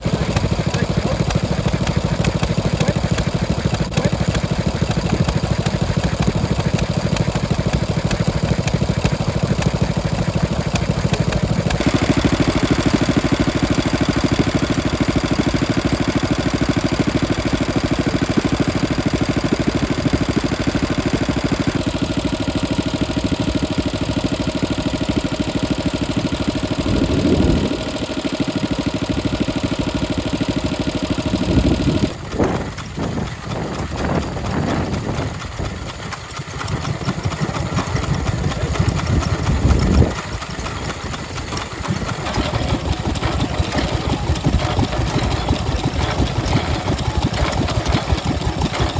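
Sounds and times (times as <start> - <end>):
stationary engines running: 0.0 - 48.9.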